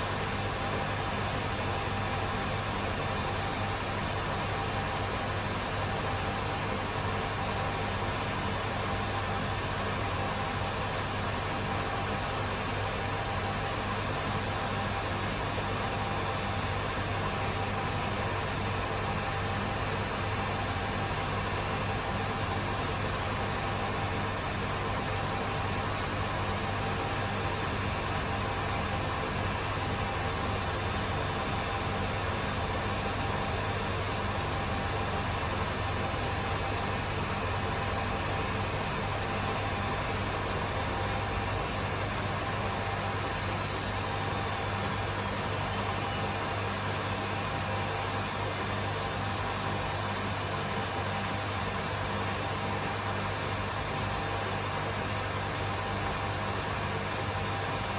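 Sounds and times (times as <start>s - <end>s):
washing machines spinning: 0.0s - 57.9s.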